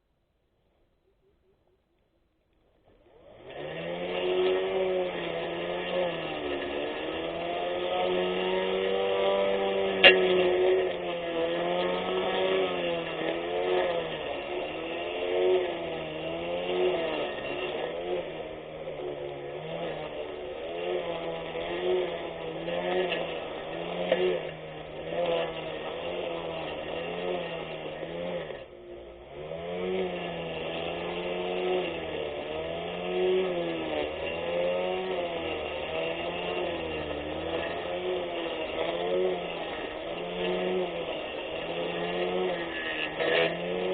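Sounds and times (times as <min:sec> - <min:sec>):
electric lawn mower motor whine: 0:02.7 - 0:43.9.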